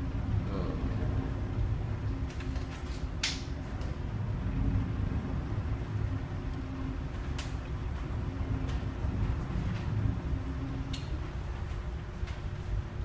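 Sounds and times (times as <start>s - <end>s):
faint steady hum: 0.0s - 13.0s
ship engine low rumble: 0.0s - 13.0s.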